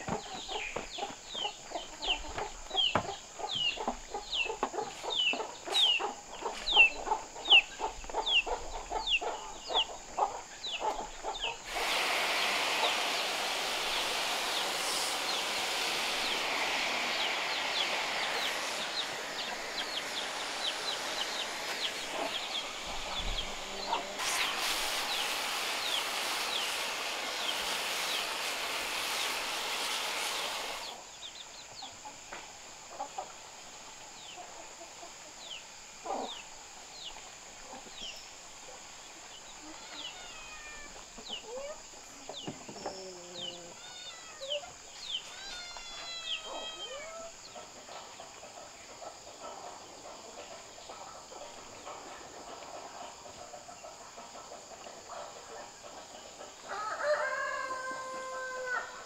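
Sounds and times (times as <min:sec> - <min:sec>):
chickens clucking and peeping: 0:00.0 - 0:59.0
steady loud hiss: 0:00.0 - 0:59.0.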